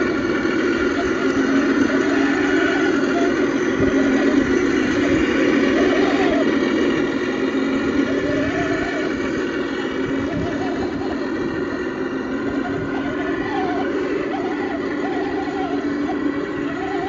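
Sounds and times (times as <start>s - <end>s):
simulated diesel engine through speaker: 0.0s - 17.0s.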